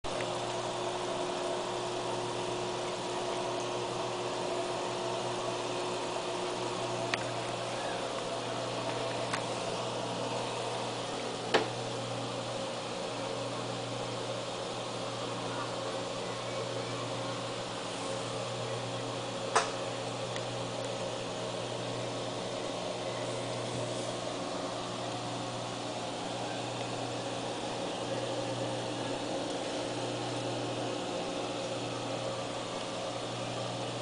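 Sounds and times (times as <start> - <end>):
aquarium filter humming: 0.0 - 34.0.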